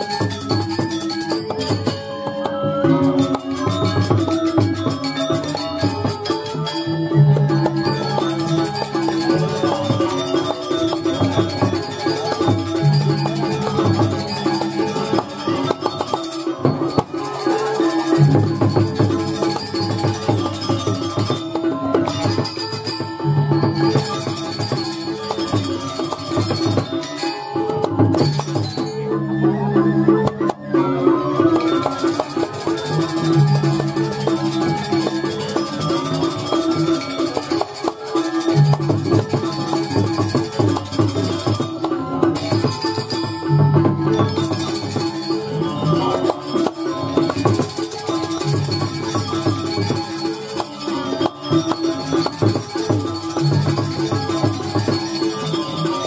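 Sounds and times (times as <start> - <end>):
drum strokes: 0.0 - 28.9, 31.5 - 56.0
gamelan metallophones ringing: 0.0 - 56.0.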